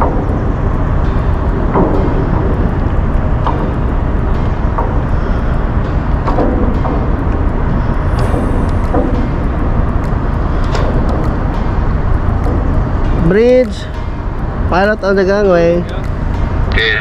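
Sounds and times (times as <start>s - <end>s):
engine and machinery rumble: 0.0s - 17.0s.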